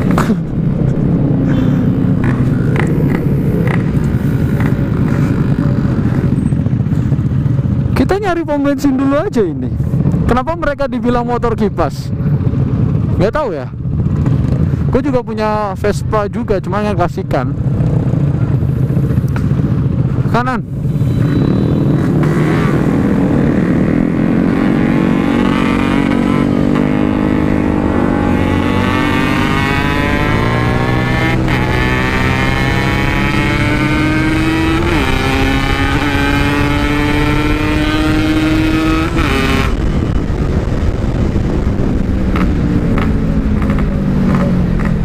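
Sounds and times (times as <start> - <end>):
motorcycle engine accelerating: 0.0 - 10.4, 17.5 - 45.0.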